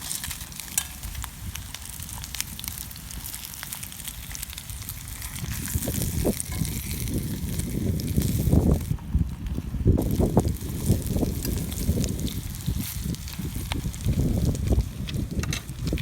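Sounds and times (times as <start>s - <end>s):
campfire crackling and sizzling: 0.0s - 16.0s
wind rumble on microphone: 0.0s - 16.0s.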